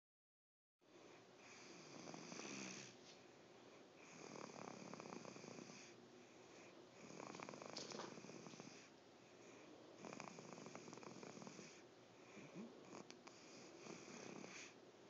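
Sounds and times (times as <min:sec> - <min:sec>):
faint breathy snoring: 0:00.9 - 0:03.0, 0:03.7 - 0:14.8.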